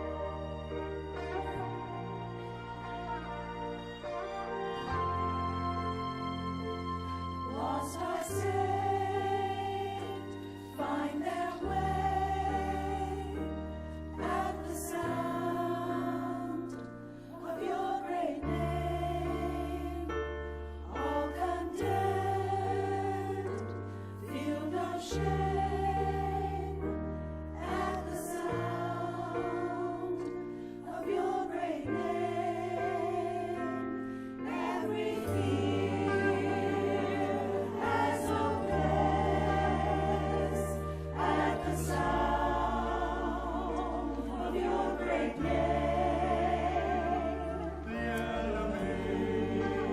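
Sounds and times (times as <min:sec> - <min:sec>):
group singing a hymn: 0:07.3 - 0:49.9.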